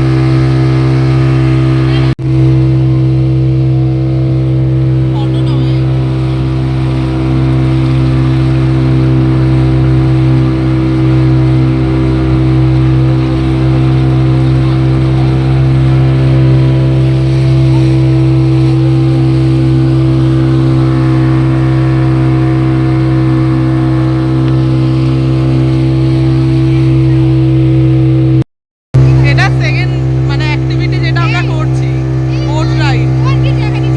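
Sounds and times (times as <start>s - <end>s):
speedboat engine drone: 0.0s - 28.4s, 29.0s - 33.9s.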